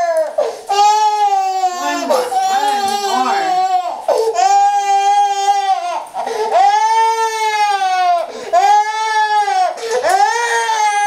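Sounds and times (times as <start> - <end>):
baby girl crying: 0.0 - 11.0.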